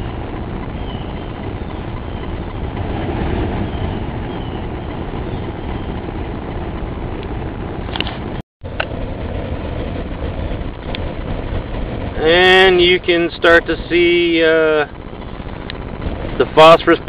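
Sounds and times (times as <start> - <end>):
furnace roar of forced air: 0.0 - 17.0.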